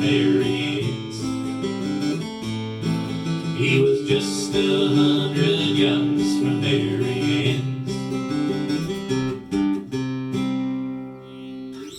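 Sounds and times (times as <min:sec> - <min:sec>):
acoustic guitar strumming chords: 0:00.0 - 0:11.9.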